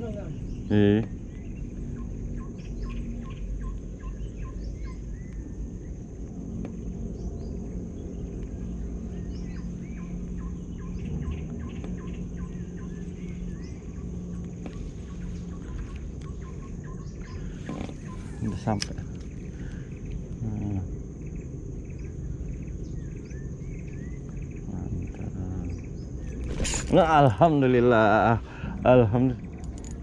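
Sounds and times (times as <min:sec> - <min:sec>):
birds chirping: 0:00.0 - 0:30.0
high insect drone: 0:00.0 - 0:30.0
low steady rumble: 0:00.0 - 0:30.0.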